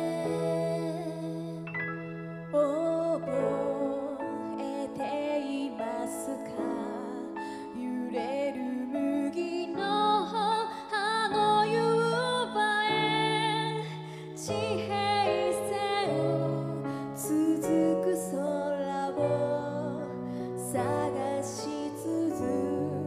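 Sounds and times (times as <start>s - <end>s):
piano: 0.0s - 23.0s
woman singing a ballad: 0.0s - 23.0s.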